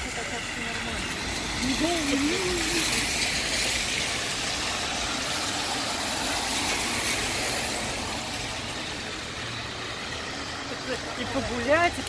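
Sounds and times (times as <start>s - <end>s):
rain falling: 0.0s - 12.0s
tyres hissing on wet road: 0.0s - 12.0s.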